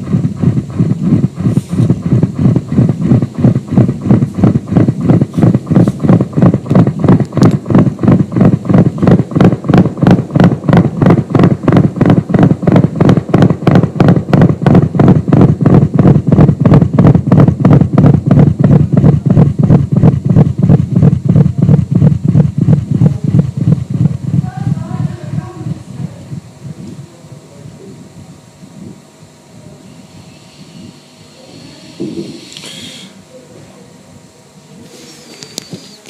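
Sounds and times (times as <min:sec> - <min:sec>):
loud low electronic pulse: 0:00.0 - 0:34.8.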